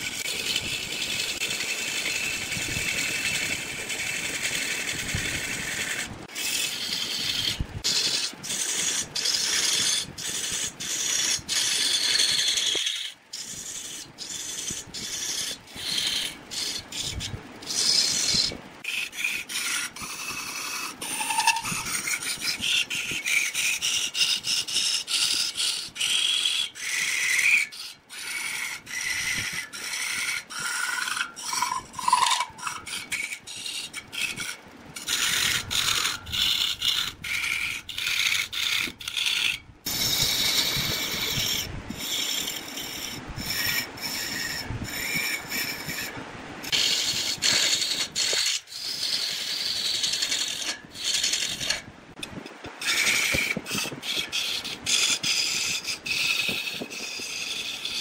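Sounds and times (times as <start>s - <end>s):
lathe tool scraping wood: 0.0s - 58.0s.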